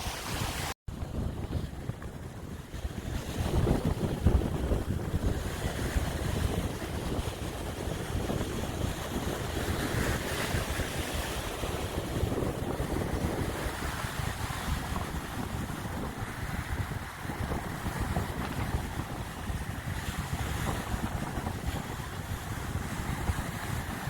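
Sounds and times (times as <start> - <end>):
sea surf rushing on shore: 0.0 - 24.0
wind buffeting microphone: 0.0 - 24.0.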